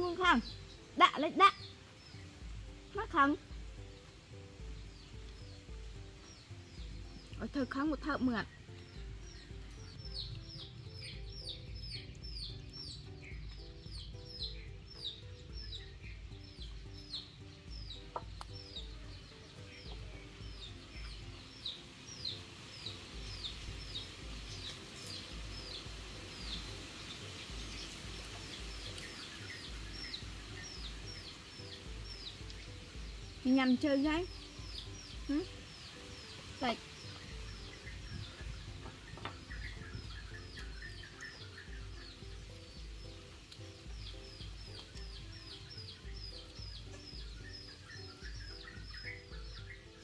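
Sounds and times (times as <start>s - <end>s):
bird chirping falling notes: 0.0s - 50.0s
soft music with low beat: 0.0s - 50.0s.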